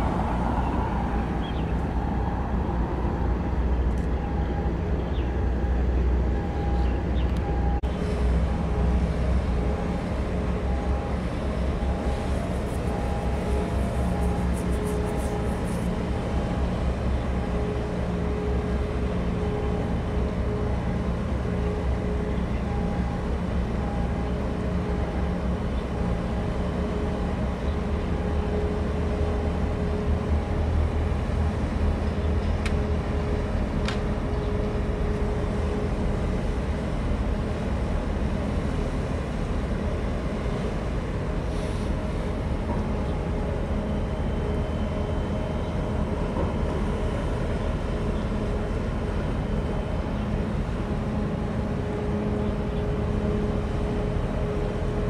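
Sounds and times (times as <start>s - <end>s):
diesel engines droning: 0.0s - 55.0s
steady hum: 0.0s - 55.0s.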